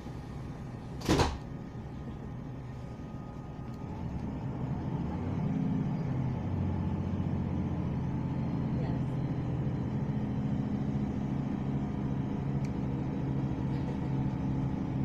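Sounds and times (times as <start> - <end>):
diesel train engine throttling up: 0.0 - 15.0.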